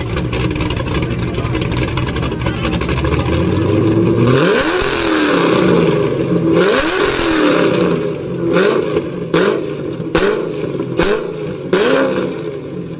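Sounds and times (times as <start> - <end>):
engine throttle blips: 0.0 - 12.9.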